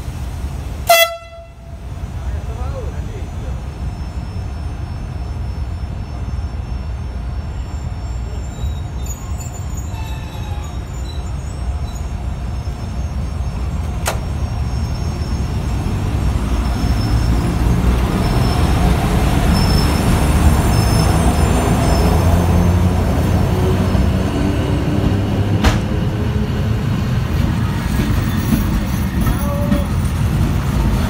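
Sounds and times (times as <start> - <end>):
locomotive hum: 0.0 - 31.0
train wheels rumbling: 0.0 - 31.0.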